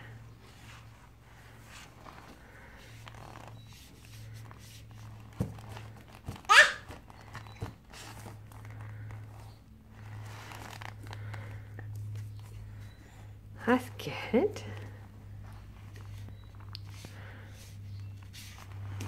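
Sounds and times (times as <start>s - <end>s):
low steady hum: 0.0s - 19.0s
paper and plastic rustling: 0.6s - 13.0s, 14.6s - 19.0s.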